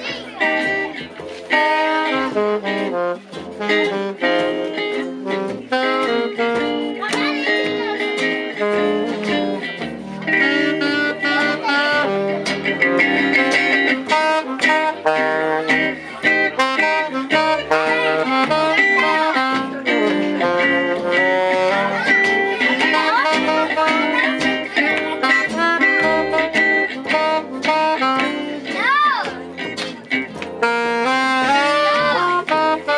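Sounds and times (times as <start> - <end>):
guitar melody: 0.0 - 32.9
jazz band playing: 0.0 - 32.9.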